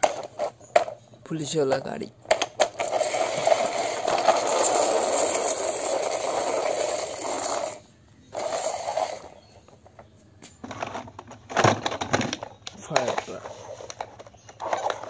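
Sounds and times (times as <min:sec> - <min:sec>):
toy wheels rolling on concrete: 0:00.0 - 0:15.0.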